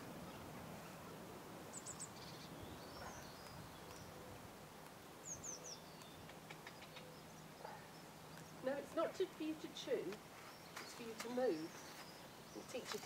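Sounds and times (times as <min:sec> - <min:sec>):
faint songbird chirps: 0:00.2 - 0:04.5, 0:05.2 - 0:13.0.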